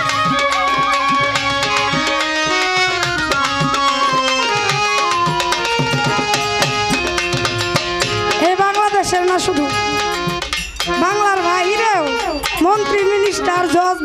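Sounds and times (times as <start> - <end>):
hand drums beating: 0.0 - 14.0
sliding violin melody: 0.0 - 14.0.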